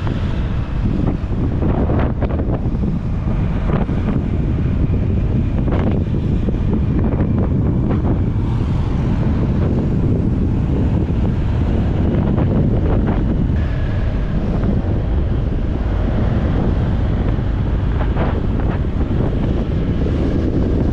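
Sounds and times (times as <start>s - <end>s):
strong wind buffeting microphone: 0.0s - 20.9s.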